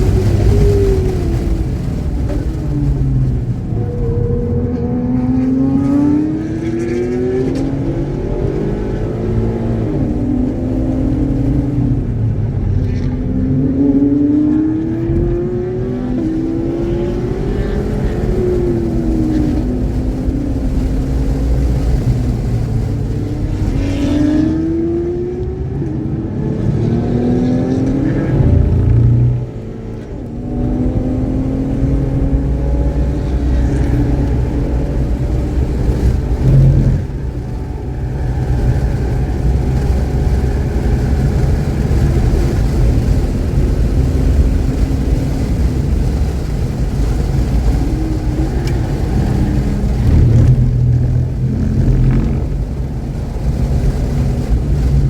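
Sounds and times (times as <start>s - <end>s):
car engine shifting gears: 0.0s - 55.0s
road and wind rumble: 0.0s - 55.0s.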